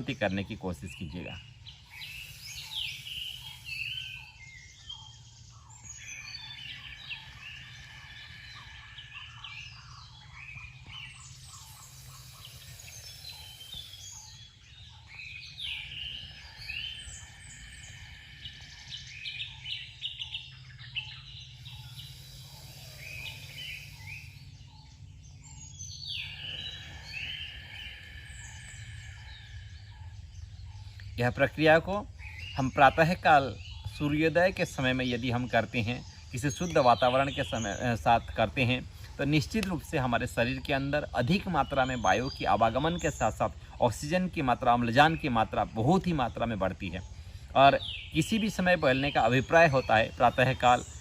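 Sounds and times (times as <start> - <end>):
songbirds chirping and singing: 0.0 - 51.0
steady low hum: 0.0 - 51.0.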